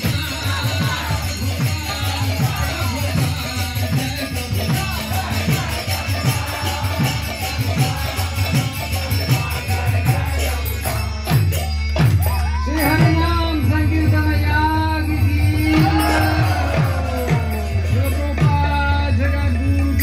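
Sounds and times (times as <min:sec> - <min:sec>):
group singing: 0:00.0 - 0:19.6
drum beating steadily: 0:00.0 - 0:20.0
hand cymbals jingling: 0:00.0 - 0:20.0.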